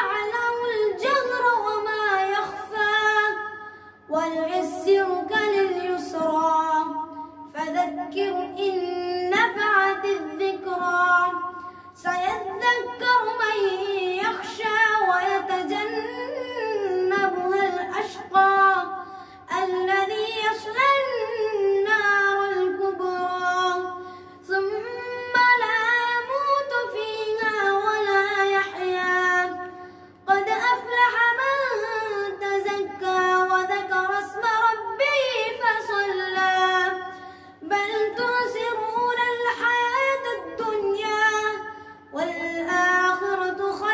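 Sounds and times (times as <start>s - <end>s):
boy chanting recitation: 0.0s - 43.9s.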